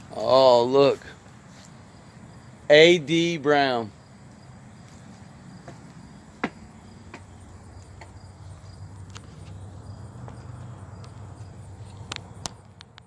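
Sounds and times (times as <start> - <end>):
insects chirping: 0.0 - 13.0
low outdoor hum: 0.0 - 13.0.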